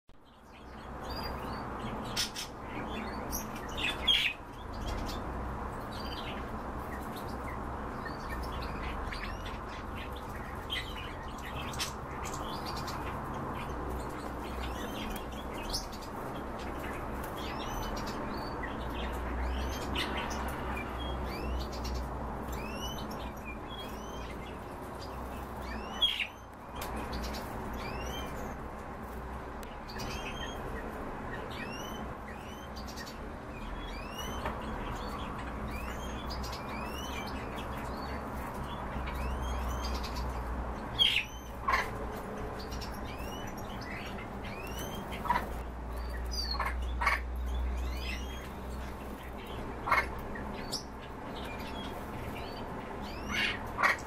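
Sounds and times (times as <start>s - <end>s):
caged birds chirping: 0.1s - 54.0s.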